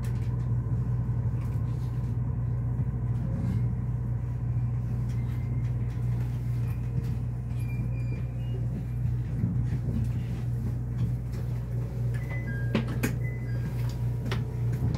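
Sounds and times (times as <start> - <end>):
train carriage low hum: 0.0 - 14.9.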